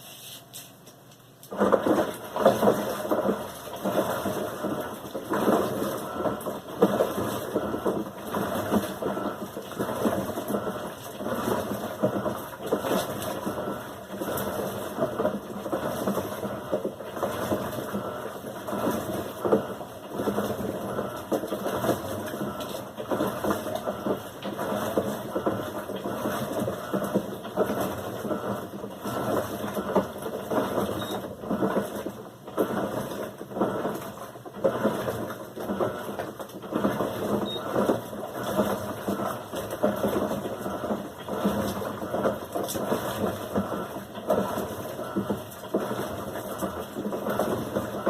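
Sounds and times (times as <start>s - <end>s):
washing machine churning: 0.0s - 48.0s.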